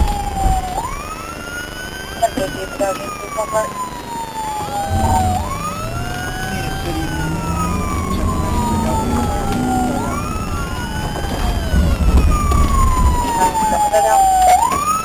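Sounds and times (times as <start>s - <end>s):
car engine and road rumble: 0.0s - 15.0s
police siren wailing: 0.0s - 15.0s.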